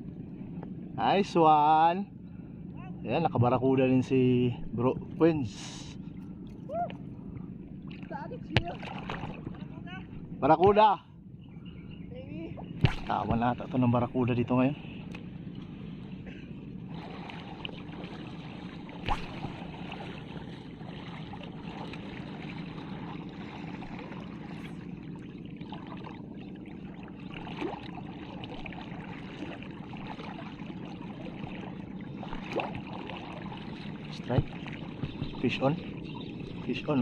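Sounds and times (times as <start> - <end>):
water moving and lapping: 2.1 - 11.1, 12.0 - 37.0.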